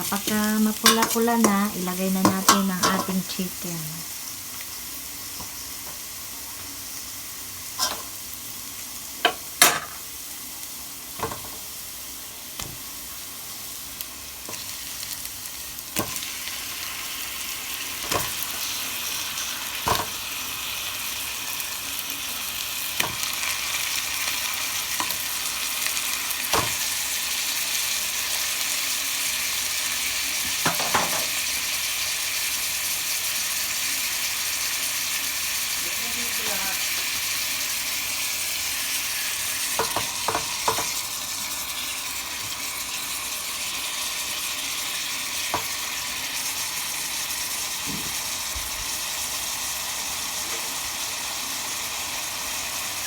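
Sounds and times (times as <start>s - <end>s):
chicken sizzling in hot oil: 0.0s - 53.0s.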